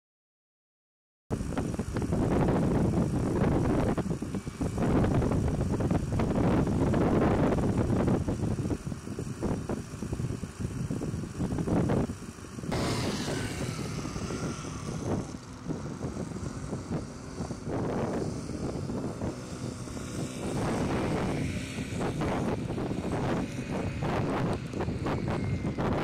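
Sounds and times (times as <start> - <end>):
wind rumbling on microphone: 1.3 - 26.0
road traffic passing: 1.4 - 26.0.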